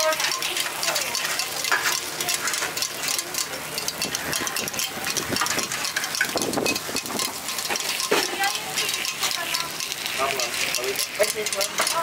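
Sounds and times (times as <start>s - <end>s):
batter sizzling in a pan: 0.0s - 12.0s
metal picks scraping and tapping: 0.0s - 12.0s.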